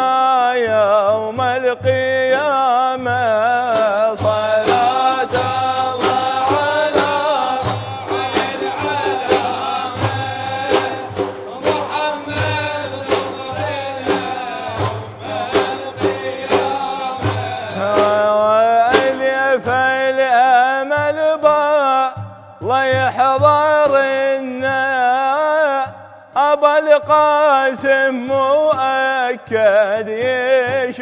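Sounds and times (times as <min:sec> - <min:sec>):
frame drums beating: 0:00.0 - 0:26.2
man singing religious melody: 0:00.0 - 0:31.0.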